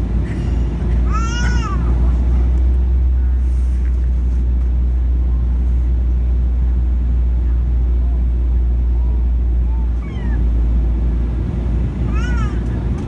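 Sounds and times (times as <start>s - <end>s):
jet cabin engine rumble: 0.0s - 13.0s.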